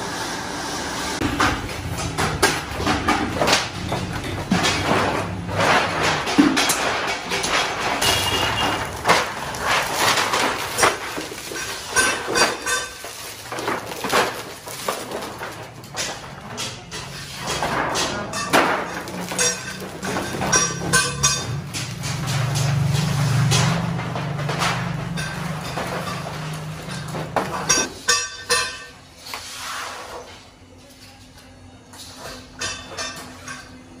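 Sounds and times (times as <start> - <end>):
sheet metal clanking: 1.2 - 29.0.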